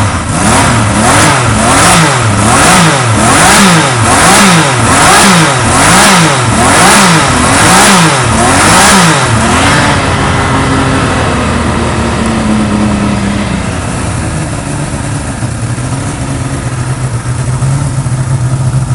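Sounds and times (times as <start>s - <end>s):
motorcycle engine idling: 0.0s - 18.9s
motorcycle engine revving: 0.0s - 18.9s.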